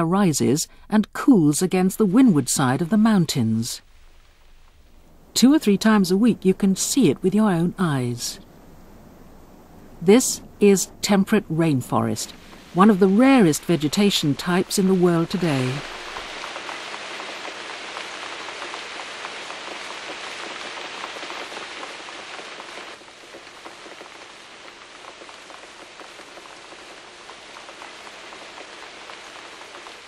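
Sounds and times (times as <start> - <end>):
rain falling on foliage: 2.0 - 30.0.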